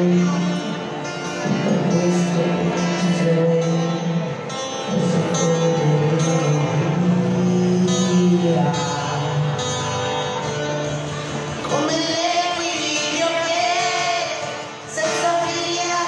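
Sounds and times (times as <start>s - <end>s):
man singing into microphone: 0.0s - 10.4s, 11.6s - 16.0s
strummed acoustic guitar: 0.0s - 16.0s.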